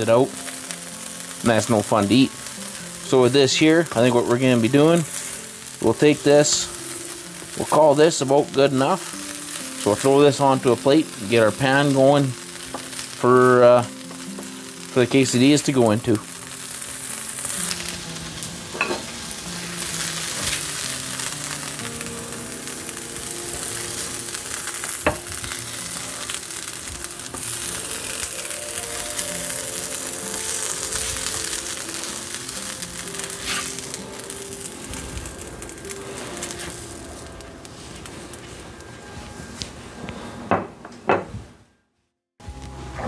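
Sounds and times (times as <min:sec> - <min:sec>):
meat sizzling on a griddle: 0:00.0 - 0:38.8.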